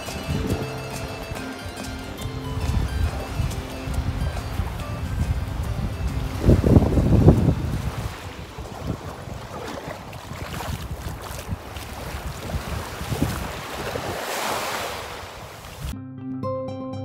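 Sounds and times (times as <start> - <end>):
small waves on sandy shore: 0.0 - 16.0
wind buffeting microphone: 0.0 - 16.0.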